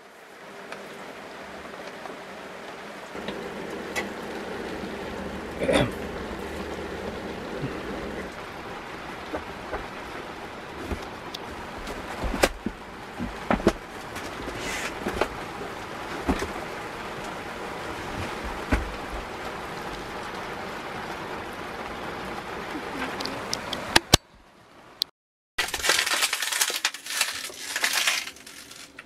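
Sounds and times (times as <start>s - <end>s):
rain on boat deck: 0.0s - 29.0s.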